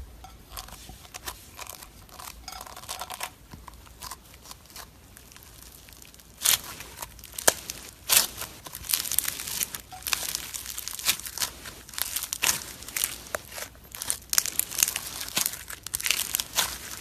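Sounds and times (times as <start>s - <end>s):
slime crackling and squelching: 0.3s - 17.0s.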